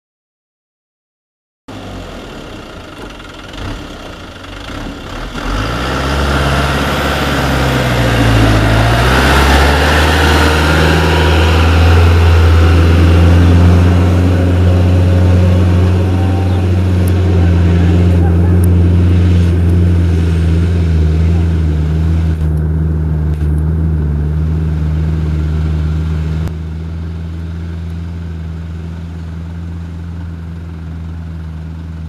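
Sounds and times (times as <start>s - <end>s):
truck diesel engine climbing: 1.7s - 32.0s.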